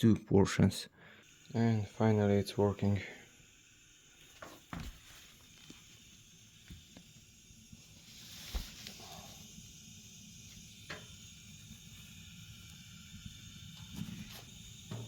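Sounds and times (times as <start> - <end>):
gas flame hissing: 0.7 - 15.0.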